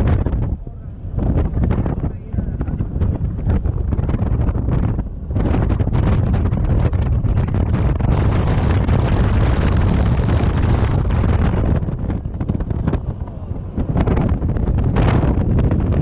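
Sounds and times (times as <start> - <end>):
vehicle rumble on road: 0.0 - 16.0
wind buffeting microphone: 0.0 - 16.0.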